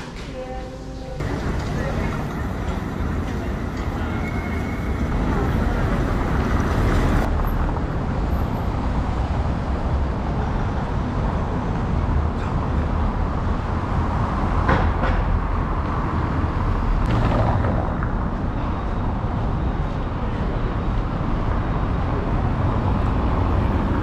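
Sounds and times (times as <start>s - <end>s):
vehicle rumble: 1.2s - 24.0s.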